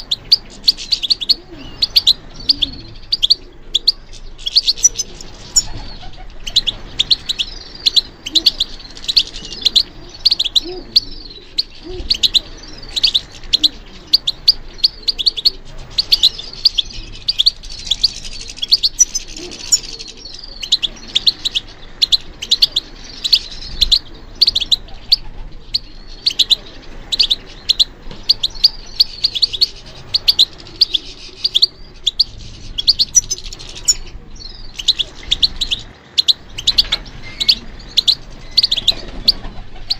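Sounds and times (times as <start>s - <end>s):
goldfinch singing: 0.0s - 39.9s.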